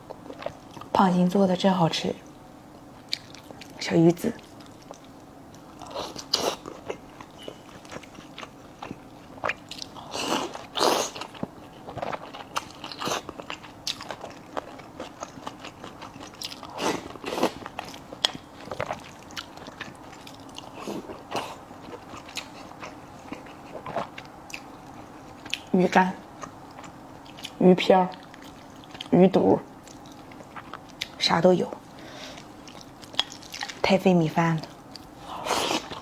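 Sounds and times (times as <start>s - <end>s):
person chewing food: 0.0s - 0.9s, 2.9s - 3.8s, 4.4s - 25.7s, 26.3s - 29.1s, 29.8s - 33.8s, 34.7s - 36.0s.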